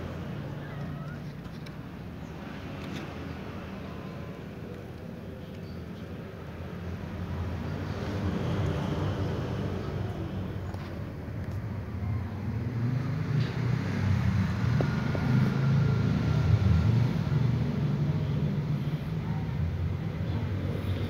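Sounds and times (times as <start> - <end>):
urban background rumble: 0.0 - 21.0.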